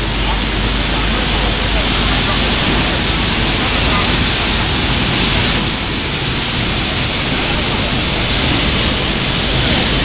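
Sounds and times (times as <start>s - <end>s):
food processing machinery hissing: 0.0s - 10.0s.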